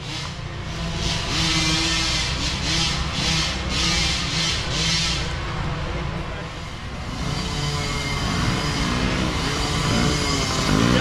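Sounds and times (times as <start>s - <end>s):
faint dirt bike engines buzzing: 0.0s - 11.0s.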